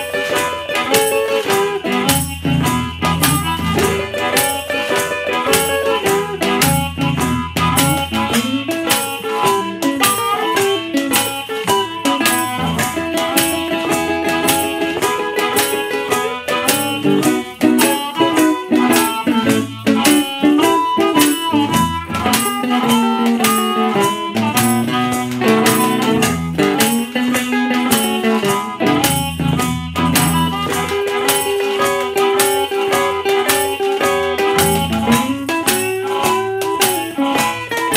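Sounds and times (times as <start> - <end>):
guitar: 0.0 - 37.9
harmonica bending notes: 0.0 - 37.9.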